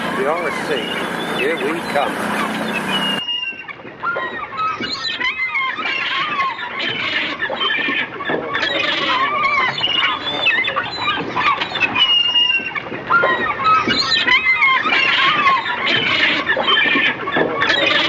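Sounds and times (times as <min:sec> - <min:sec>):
many birds calling: 0:00.0 - 0:18.0.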